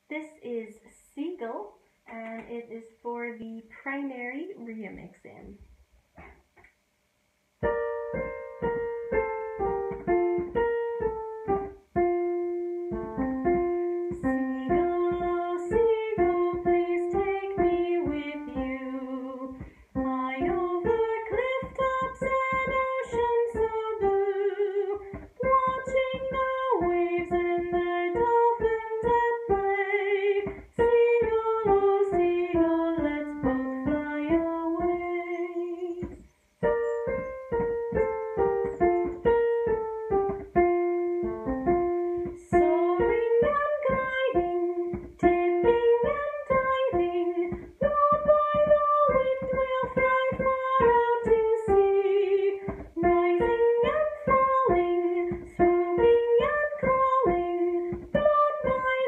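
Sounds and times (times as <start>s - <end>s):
solo instrument slow melody: 7.6s - 59.0s.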